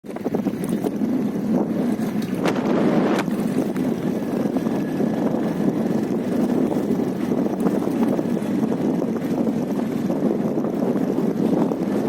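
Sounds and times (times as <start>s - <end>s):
wind on microphone: 0.0s - 12.0s
motorcycle tyre noise: 0.1s - 12.0s.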